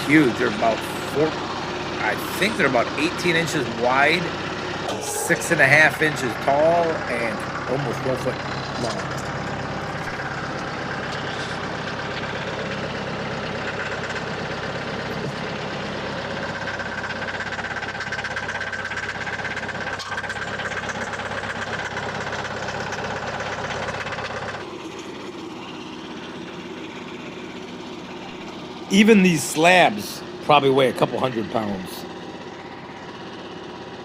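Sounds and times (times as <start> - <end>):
engine running: 0.0 - 34.0.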